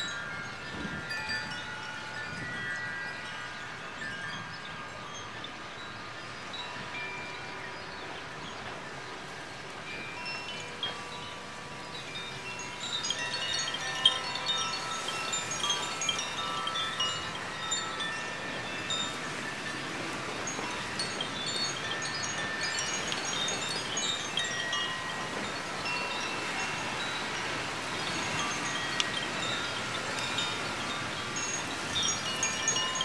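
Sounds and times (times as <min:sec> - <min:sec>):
bamboo wind chimes ringing: 0:00.0 - 0:33.0
wind hiss: 0:00.0 - 0:33.0.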